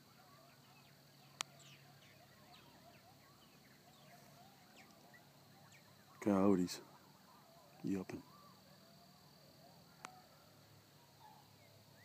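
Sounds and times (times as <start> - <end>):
distant coyotes yelping and howling: 0.0 - 12.0
bird chirps: 0.1 - 12.0.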